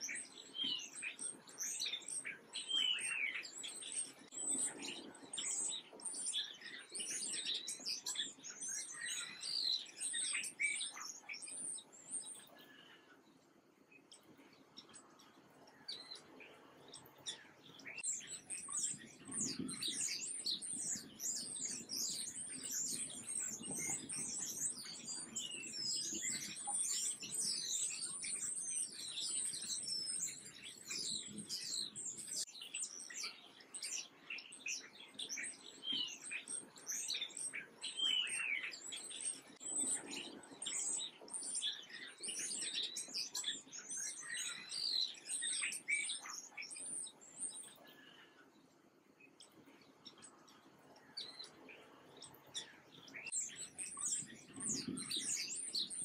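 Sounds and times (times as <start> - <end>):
sparrows chirping: 0.0 - 56.0.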